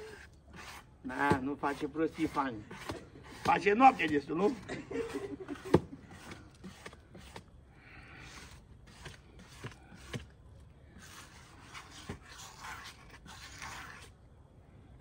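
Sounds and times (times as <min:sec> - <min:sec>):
rubbing and scraping on wood: 0:00.0 - 0:07.5, 0:08.1 - 0:10.3, 0:10.9 - 0:14.2.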